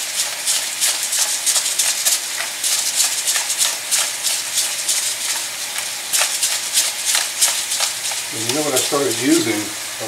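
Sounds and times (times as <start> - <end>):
pepper mill grinding: 0.0 - 9.7
meat sizzling in oil: 0.0 - 10.0.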